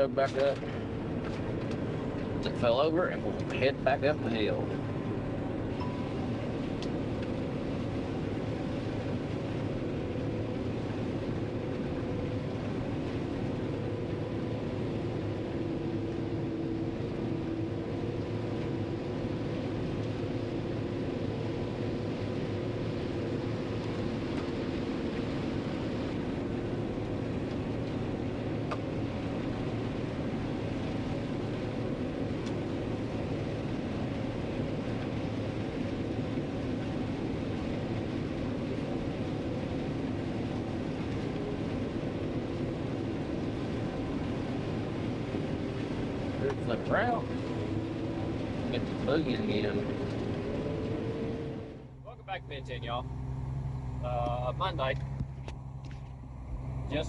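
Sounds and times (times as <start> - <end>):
combine harvester drone: 0.0 - 57.0
thin steady whine: 0.0 - 57.0.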